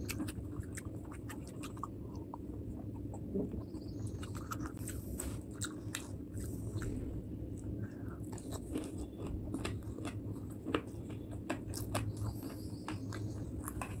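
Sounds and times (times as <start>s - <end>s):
low steady hum: 0.0s - 14.0s
person chewing with wet mouth sounds: 0.0s - 14.0s.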